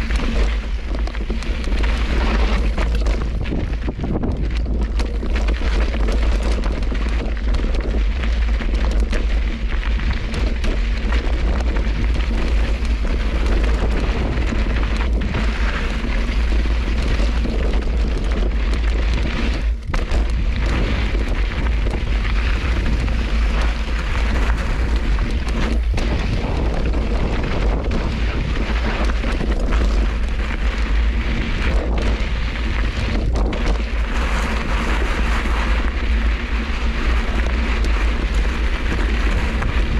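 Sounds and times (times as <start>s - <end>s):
tyre rolling over rocky trail: 0.0s - 39.9s
wind buffeting microphone: 0.0s - 39.9s.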